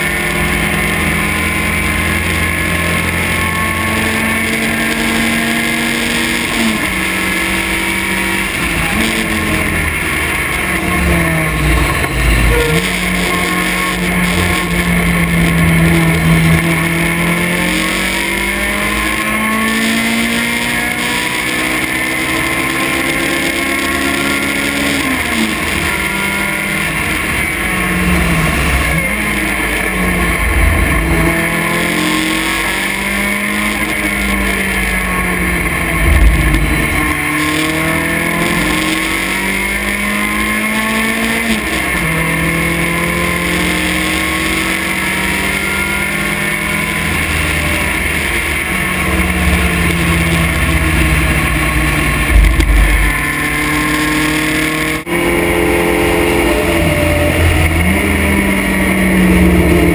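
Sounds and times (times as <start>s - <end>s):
race car engine revving: 0.0s - 59.9s
rush of air and road noise: 0.0s - 59.9s.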